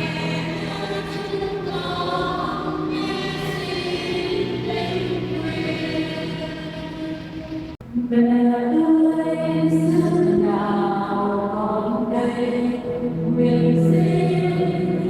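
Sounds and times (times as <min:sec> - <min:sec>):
choir singing a hymn: 0:00.0 - 0:15.0
low steady accompaniment: 0:00.0 - 0:15.0.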